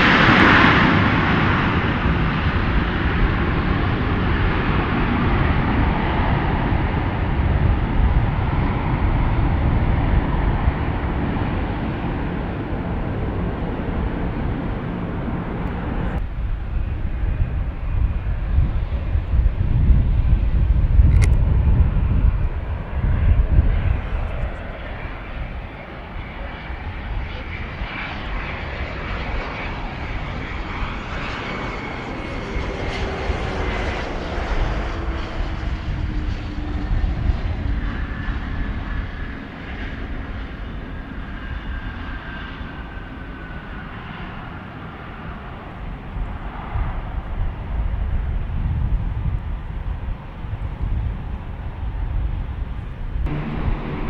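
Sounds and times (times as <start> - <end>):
airliner engines passing by: 0.0 - 54.0
wind rumble on microphone: 0.0 - 54.0.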